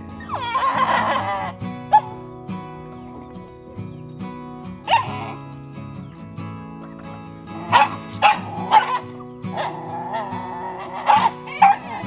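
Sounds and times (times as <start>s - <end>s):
dogs barking: 0.0s - 4.0s, 4.6s - 5.6s, 6.8s - 12.0s
background music: 0.0s - 12.0s.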